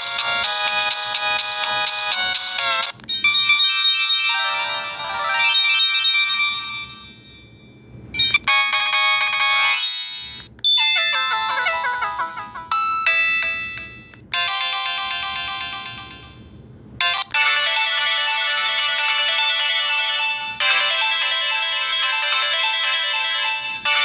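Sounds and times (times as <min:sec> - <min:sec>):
mobile phone ringtone melodies: 0:00.0 - 0:24.0.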